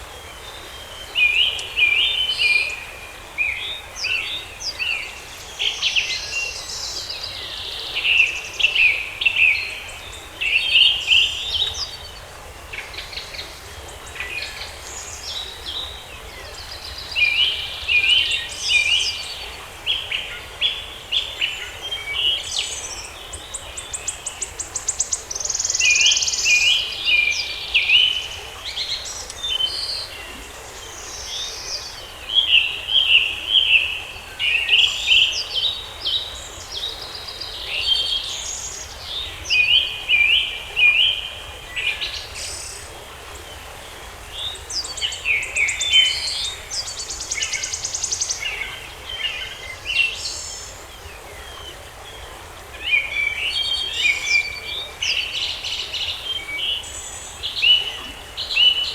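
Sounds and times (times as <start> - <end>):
songbirds chirping and warbling: 0.0 - 58.9.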